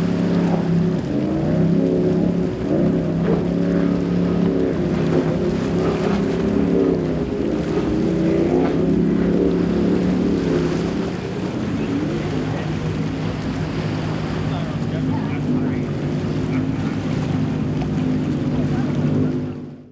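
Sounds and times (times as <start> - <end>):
race boat engines droning: 0.0 - 19.9.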